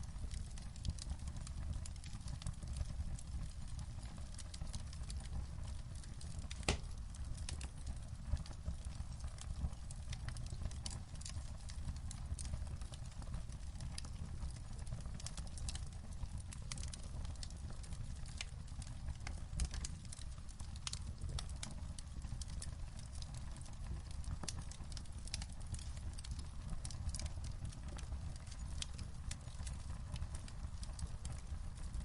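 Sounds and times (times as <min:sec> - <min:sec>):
fire low rumble: 0:00.0 - 0:32.0
wood fire crackling and popping: 0:00.0 - 0:32.0.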